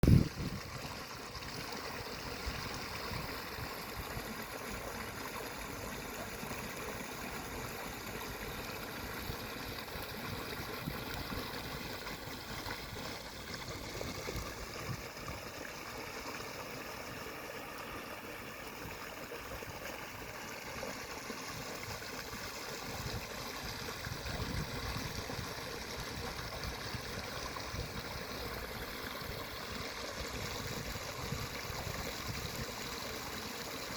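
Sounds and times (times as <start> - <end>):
running water gurgling: 0.0 - 33.9.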